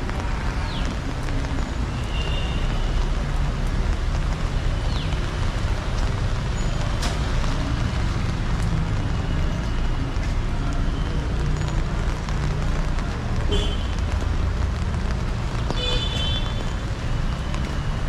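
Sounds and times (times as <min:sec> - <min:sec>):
heavy rain falling: 0:00.0 - 0:18.0
road traffic passing: 0:00.0 - 0:18.0.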